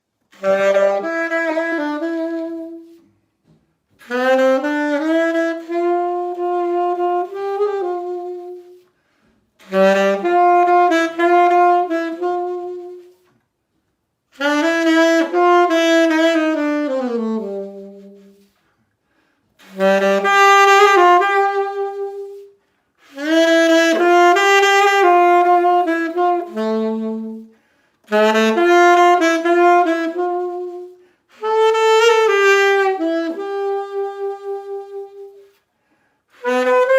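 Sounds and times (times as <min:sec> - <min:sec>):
solo saxophone melody: 0:00.0 - 0:36.9.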